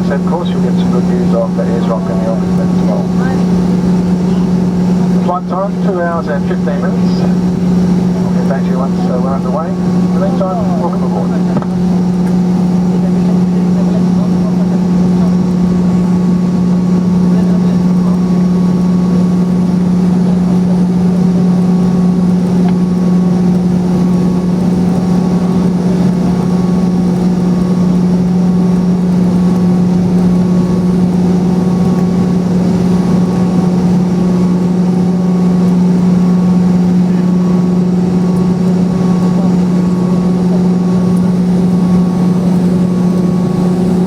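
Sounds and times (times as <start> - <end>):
jet engine drone in cabin: 0.0 - 44.0.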